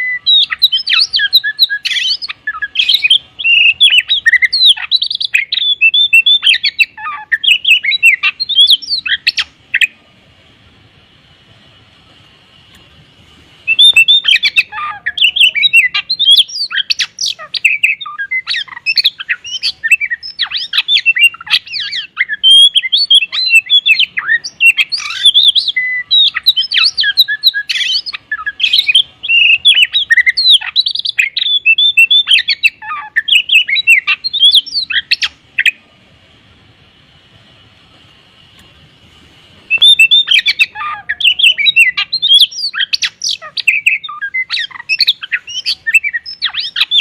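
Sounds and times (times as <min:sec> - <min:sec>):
bird singing varied whistles: 0:00.0 - 0:10.0, 0:13.7 - 0:35.8, 0:39.7 - 0:47.0.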